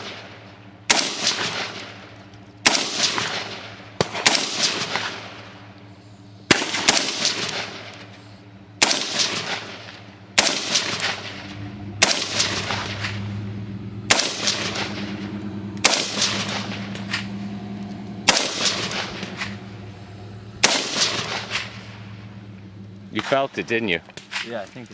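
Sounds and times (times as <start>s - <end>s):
rifle shots with echo: 0.0s - 5.8s, 6.5s - 8.2s, 8.8s - 22.4s.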